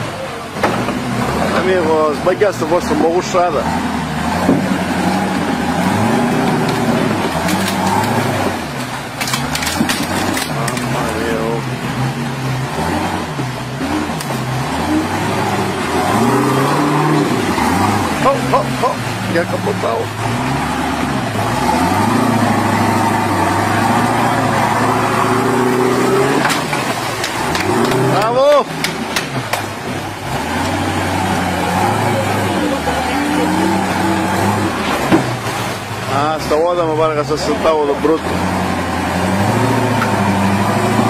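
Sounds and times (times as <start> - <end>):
buggy engine revving: 0.0 - 41.0.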